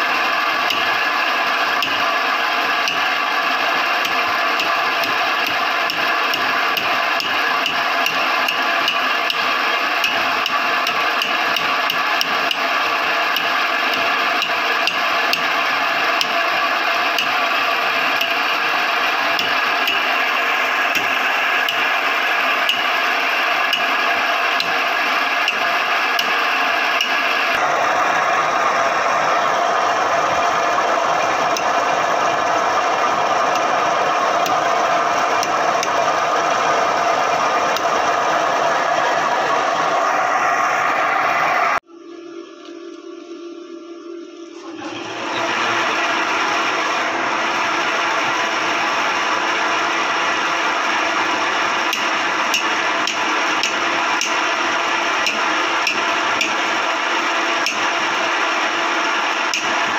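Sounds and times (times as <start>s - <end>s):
grinding machine rattling: 0.0s - 41.8s, 44.5s - 59.9s.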